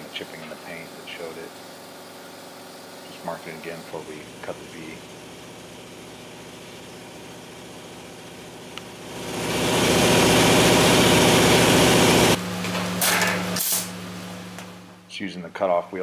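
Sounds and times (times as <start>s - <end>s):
loud machine noise: 0.0s - 15.0s
steady motor hum: 0.0s - 15.1s.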